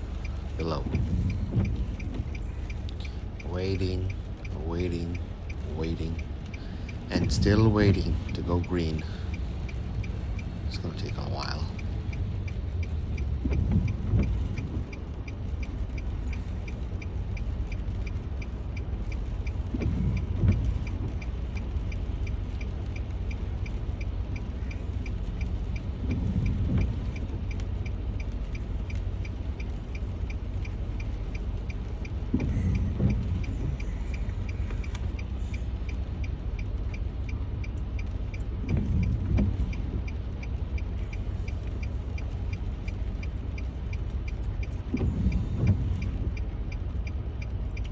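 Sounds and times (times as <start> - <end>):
car engine idling: 0.0 - 47.9
turn signal ticking: 0.0 - 47.9
windscreen wipers sweeping: 0.0 - 47.9.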